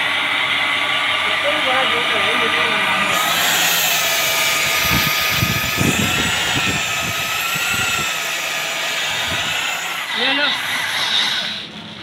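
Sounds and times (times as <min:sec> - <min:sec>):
electric drill motor whine: 0:00.0 - 0:12.0.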